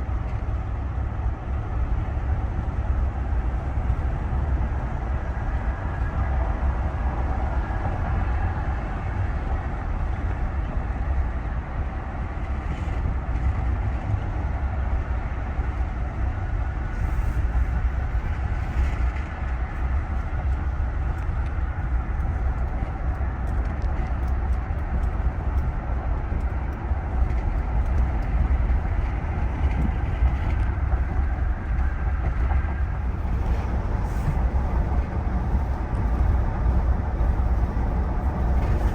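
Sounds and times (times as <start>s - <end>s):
low road rumble: 0.0s - 38.9s
wind noise: 0.0s - 38.9s.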